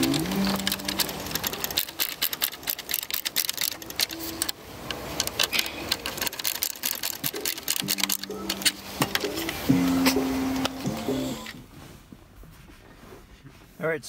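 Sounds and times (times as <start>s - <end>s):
ratcheting screwdriver clicking: 0.0s - 11.6s.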